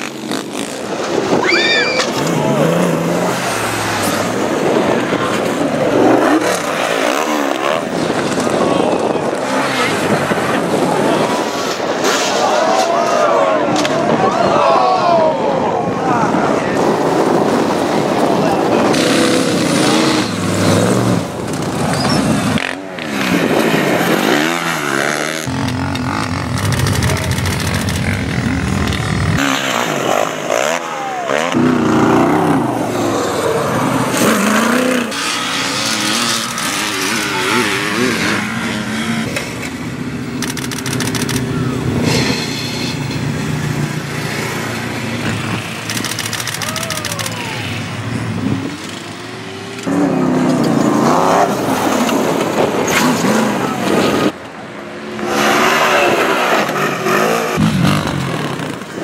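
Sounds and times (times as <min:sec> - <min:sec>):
dune buggy engines revving: 0:00.0 - 0:59.0.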